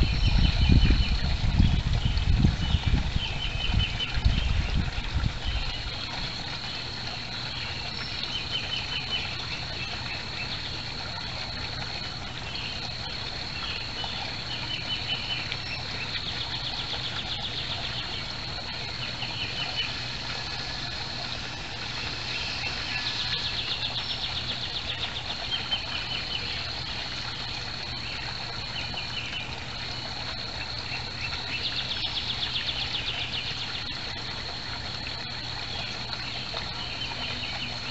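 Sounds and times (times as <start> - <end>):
constant thin high tone: 0.0 - 37.9
songbirds trilling: 0.0 - 37.9
steady hiss: 5.2 - 37.9.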